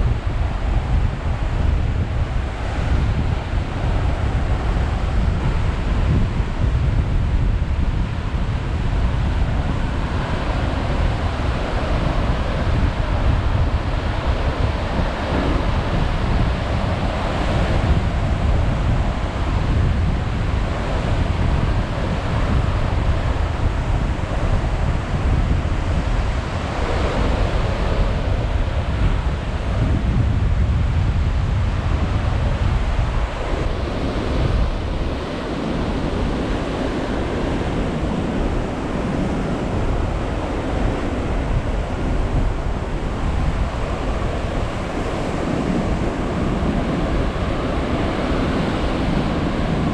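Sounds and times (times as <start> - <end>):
heavy surf breaking on cliffs: 0.0 - 49.9
wind buffeting microphone: 0.0 - 49.9.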